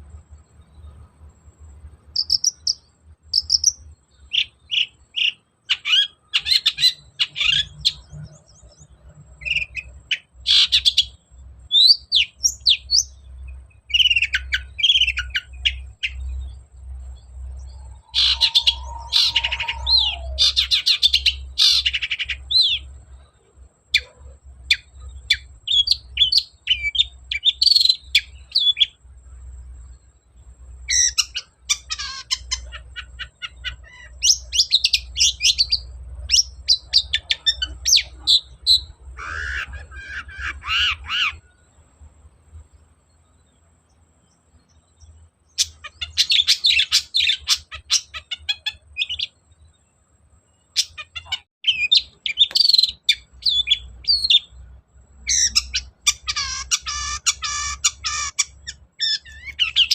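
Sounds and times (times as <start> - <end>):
bird singing chirps and trills: 0.1 - 59.9.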